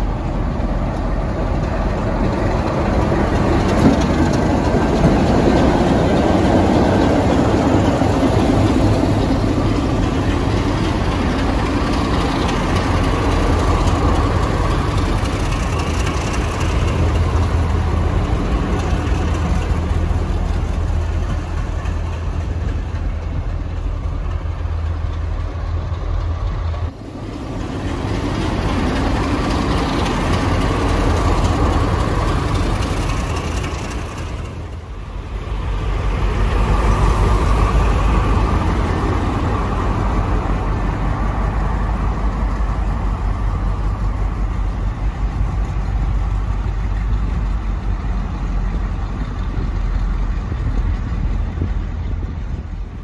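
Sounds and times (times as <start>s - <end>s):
diesel locomotive engines: 0.0s - 53.0s.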